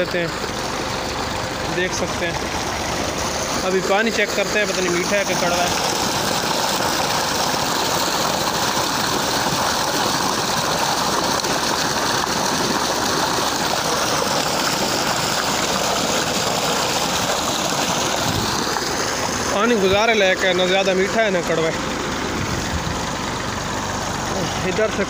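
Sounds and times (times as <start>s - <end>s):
tractor engine at low revs: 0.0s - 25.0s
water gushing from a pipe: 0.0s - 25.0s.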